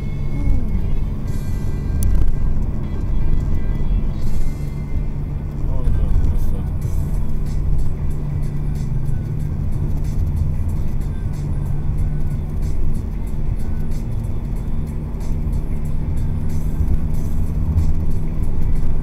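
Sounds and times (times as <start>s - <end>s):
car engine and road noise drone: 0.0s - 19.0s
music playing: 0.0s - 19.0s.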